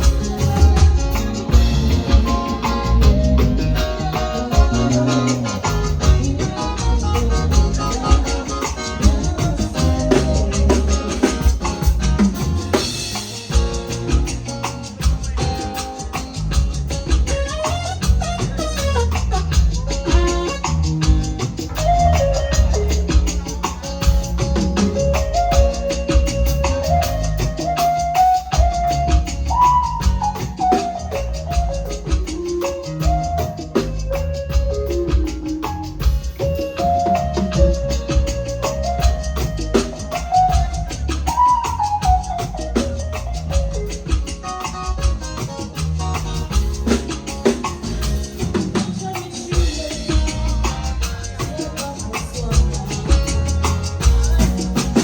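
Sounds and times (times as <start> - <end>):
bass guitar: 0.0 - 55.0
drum kit: 0.0 - 55.0
held melody notes: 0.0 - 55.0.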